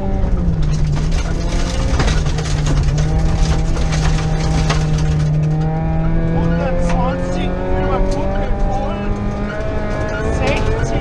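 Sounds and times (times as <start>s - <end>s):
gravel clattering against car underside: 0.0s - 11.0s
rally car engine at high revs: 0.0s - 11.0s.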